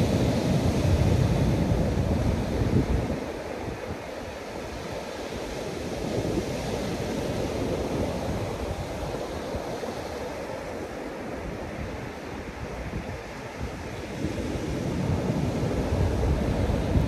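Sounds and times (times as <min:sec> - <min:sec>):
sea surf breaking on beach: 0:00.0 - 0:17.0
wind buffeting microphone: 0:00.0 - 0:17.0.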